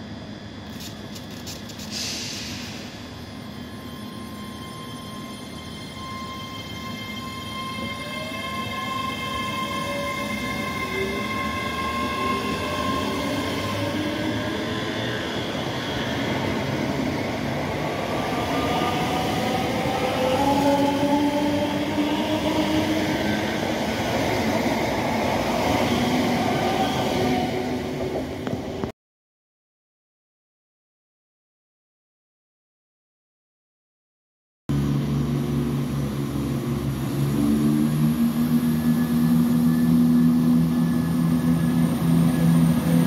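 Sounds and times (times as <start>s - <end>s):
electric train traction whine: 0.3s - 28.9s, 34.7s - 43.0s.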